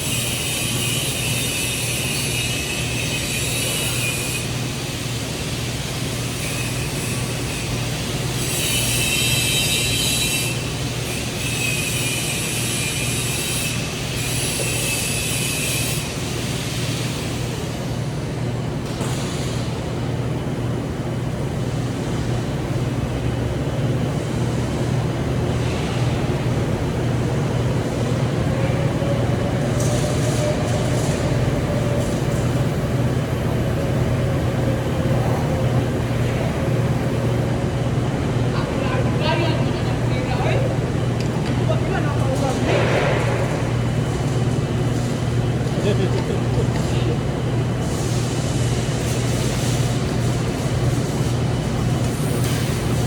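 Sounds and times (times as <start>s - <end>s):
welding arc hissing: 0.0s - 18.0s, 25.6s - 53.0s.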